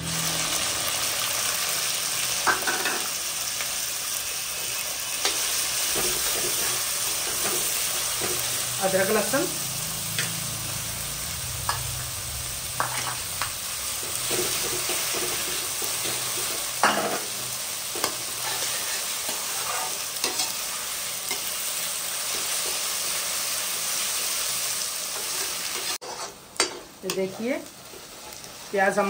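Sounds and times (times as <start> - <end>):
onions sizzling in hot oil: 0.0 - 29.0.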